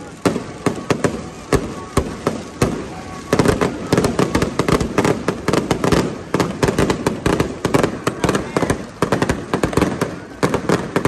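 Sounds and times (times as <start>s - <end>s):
aerial fireworks bursting: 0.0s - 11.0s.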